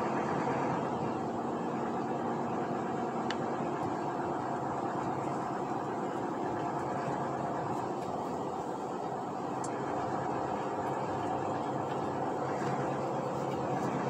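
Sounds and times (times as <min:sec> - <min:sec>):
engine hum: 0:00.0 - 0:14.0
road noise: 0:00.0 - 0:14.0.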